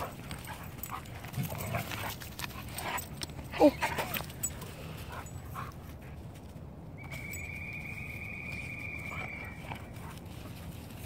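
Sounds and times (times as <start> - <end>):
dogs scuffling: 0.0 - 11.0.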